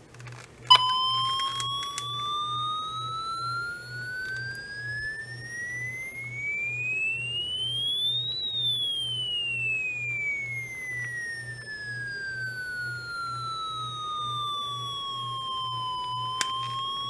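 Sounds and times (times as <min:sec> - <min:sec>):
radio alert siren tone: 0:00.7 - 0:17.0.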